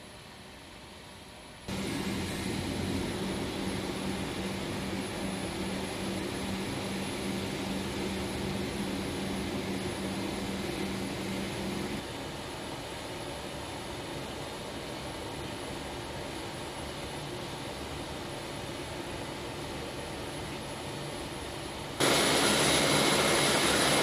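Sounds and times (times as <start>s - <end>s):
turbine drone with high whine: 0.0s - 24.0s.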